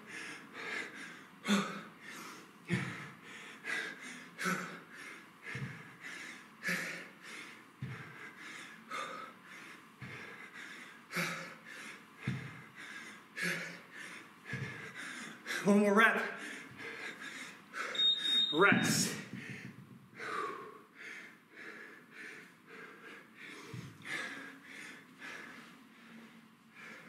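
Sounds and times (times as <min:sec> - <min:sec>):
man breathing hard: 0:00.0 - 0:18.0, 0:19.0 - 0:27.0.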